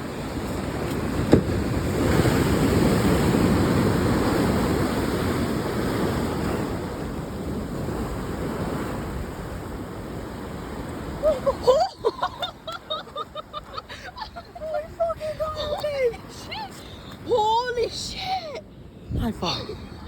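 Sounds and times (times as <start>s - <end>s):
ocean surf washing: 0.0s - 20.0s.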